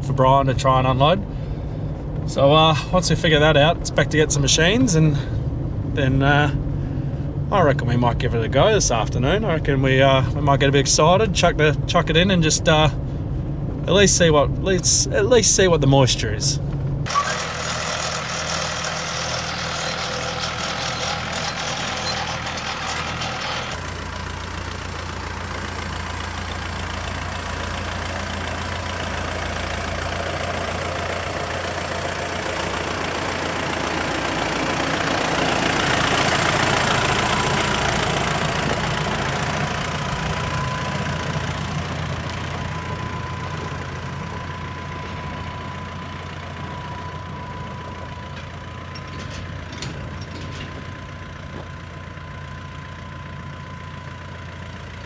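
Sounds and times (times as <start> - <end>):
heavy farm vehicle engine running: 0.0 - 55.0.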